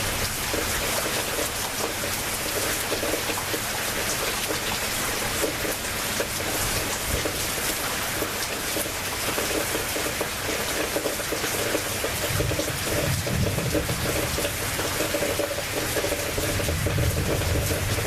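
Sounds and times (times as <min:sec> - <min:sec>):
heavy rain falling: 0:00.0 - 0:18.0
water running and splashing: 0:00.0 - 0:18.0.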